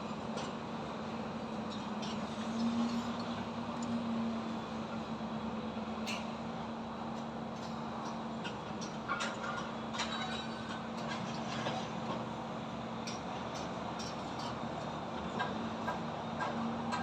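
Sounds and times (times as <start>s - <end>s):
construction clanks and knocks: 0.1s - 4.0s, 6.0s - 17.0s.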